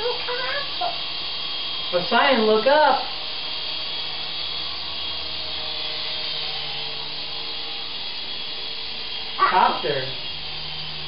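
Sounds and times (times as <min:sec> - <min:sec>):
toy helicopter rotors whirring: 0:00.0 - 0:11.0.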